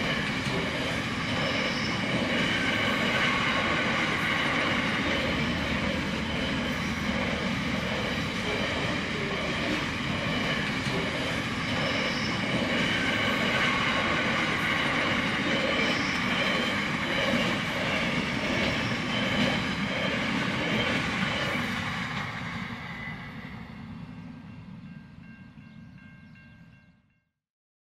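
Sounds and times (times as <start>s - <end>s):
train wheels rumbling on rails: 0.0s - 26.8s.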